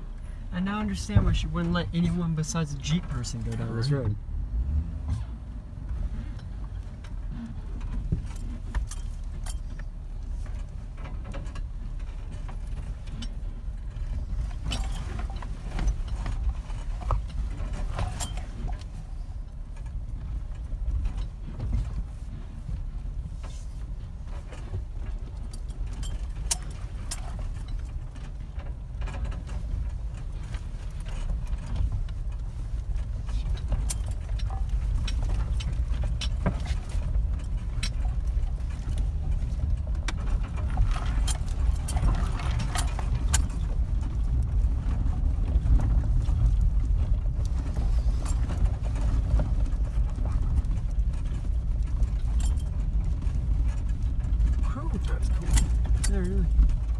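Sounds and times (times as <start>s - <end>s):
engine and tyre rumble: 0.0s - 56.9s
clicks and rattles over rocks: 6.0s - 56.9s.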